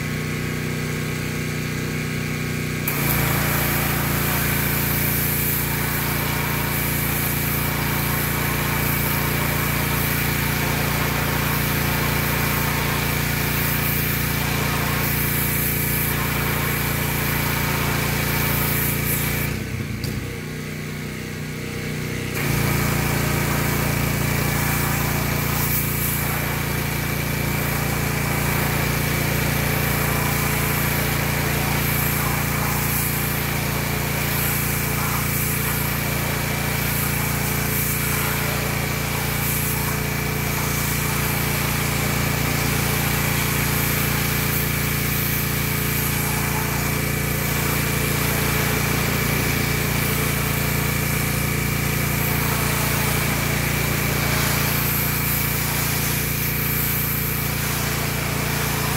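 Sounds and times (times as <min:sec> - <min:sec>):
pressure washer engine running: 0:00.0 - 0:58.9
water spray hiss: 0:02.9 - 0:20.2, 0:22.3 - 0:58.9.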